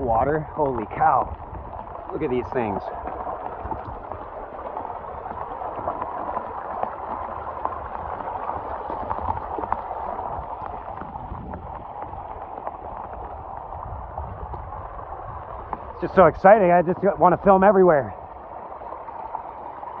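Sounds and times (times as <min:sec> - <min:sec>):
low rumble: 0:00.0 - 0:17.2
runoff water flowing over rocks: 0:00.0 - 0:20.0.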